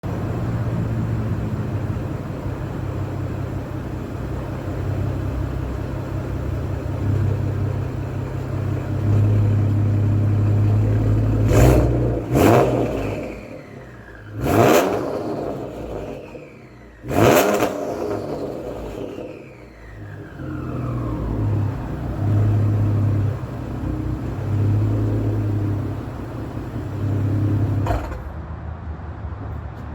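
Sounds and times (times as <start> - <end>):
car engine idling: 0.0 - 28.4
car engine revving: 0.0 - 28.4.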